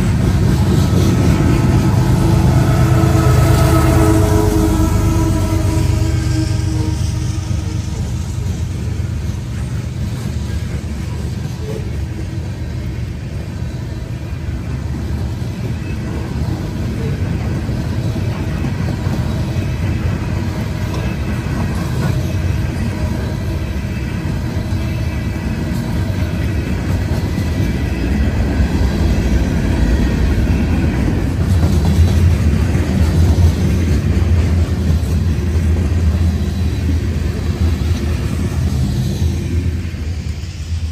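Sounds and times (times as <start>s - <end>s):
freight cars rumbling on rail: 0.0s - 40.9s.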